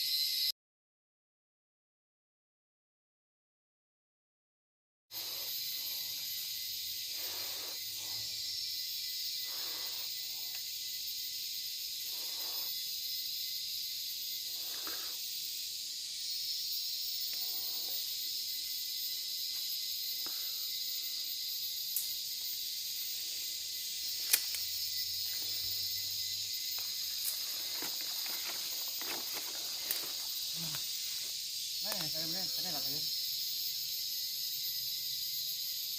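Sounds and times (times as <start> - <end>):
insects chorus: 0.0 - 0.5, 5.1 - 35.9.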